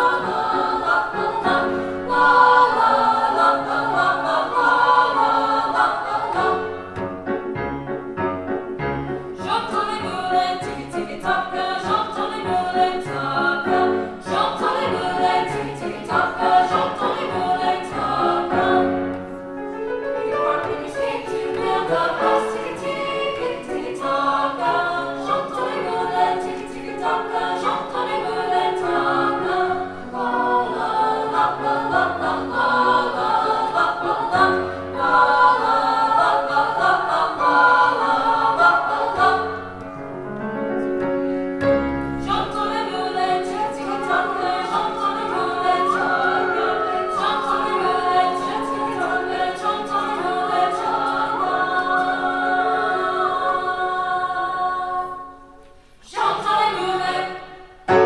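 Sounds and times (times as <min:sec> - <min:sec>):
children's choir singing: 0:00.0 - 0:40.6, 0:41.7 - 0:58.0.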